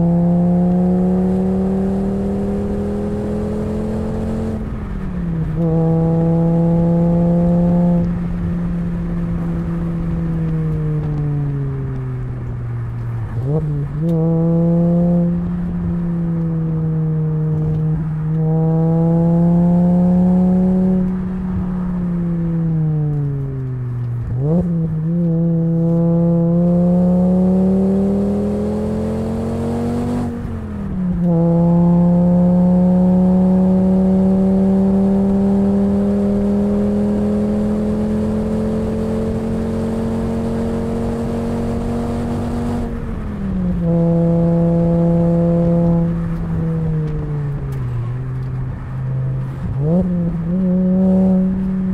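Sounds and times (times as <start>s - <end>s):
car exhaust while driving: 0.0s - 51.9s.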